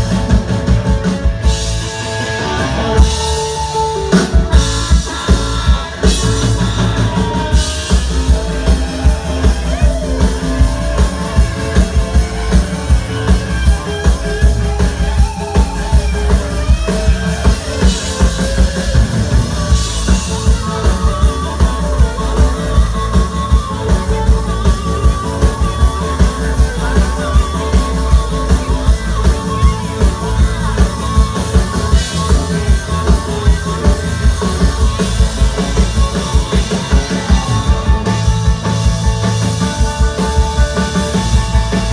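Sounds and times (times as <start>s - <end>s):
live band playing amplified music: 0.0s - 41.9s.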